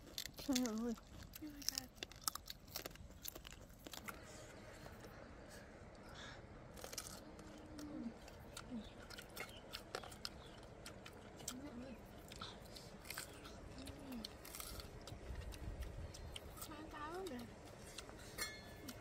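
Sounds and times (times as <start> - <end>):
crunchy food chewing: 0.0 - 6.0, 6.6 - 19.0
low humming from eater: 0.0 - 19.0.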